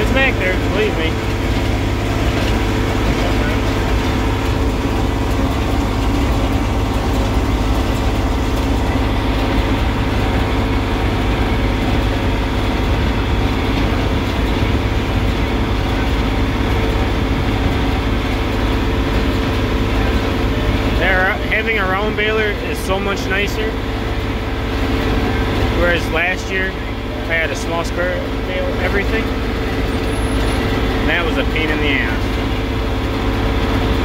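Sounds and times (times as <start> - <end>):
tractor engine under load: 0.0 - 34.0.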